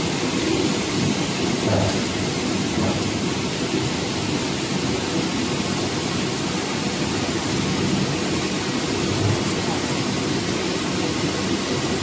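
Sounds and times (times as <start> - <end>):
washing machine rushing noise: 0.0 - 12.0.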